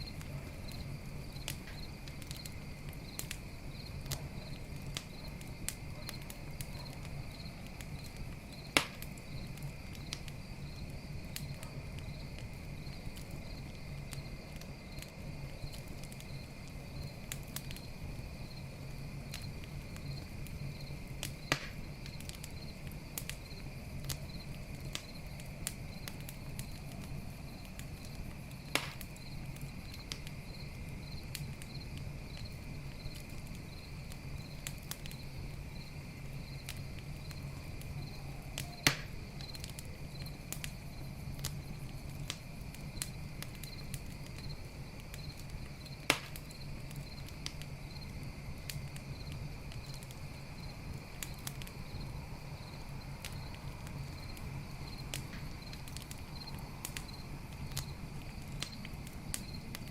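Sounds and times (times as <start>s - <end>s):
burning wood popping: 0.0s - 59.9s
campfire crackling: 0.0s - 59.9s
crickets chirping: 0.0s - 59.9s.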